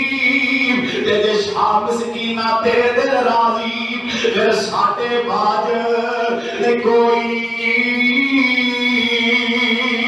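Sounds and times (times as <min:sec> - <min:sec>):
man chanting: 0:00.0 - 0:10.0.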